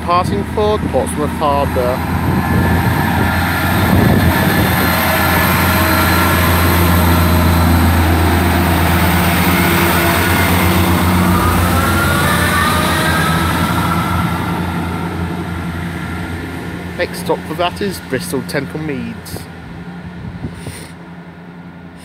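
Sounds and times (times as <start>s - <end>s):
diesel train engines running: 0.0s - 22.0s.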